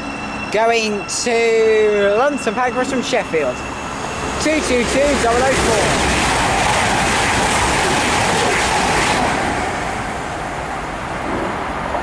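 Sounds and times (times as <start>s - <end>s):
diesel train passing: 0.0s - 12.0s.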